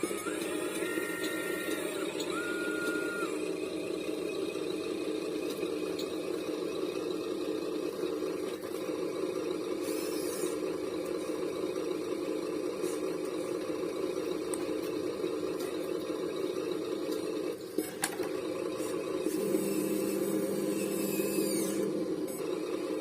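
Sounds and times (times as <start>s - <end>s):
small motor running: 0.0s - 23.0s.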